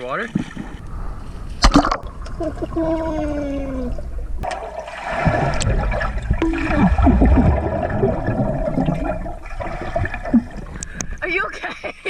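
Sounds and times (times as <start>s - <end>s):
pool water churning and gurgling: 0.0s - 11.5s.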